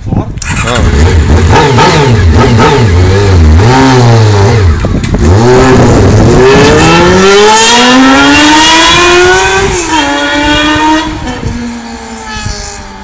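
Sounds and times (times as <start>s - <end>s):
motorcycle exhaust accelerating: 0.4s - 13.0s.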